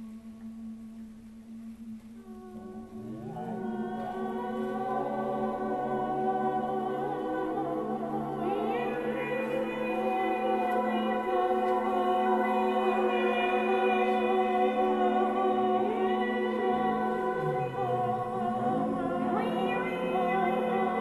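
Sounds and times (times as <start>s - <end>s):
sustained voices choir chord: 0.0s - 21.0s.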